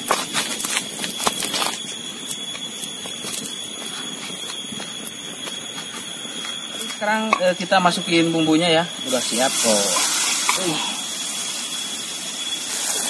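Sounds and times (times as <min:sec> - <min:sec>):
high-pitched whine: 0:00.0 - 0:13.0
wood fire crackling: 0:00.0 - 0:13.0.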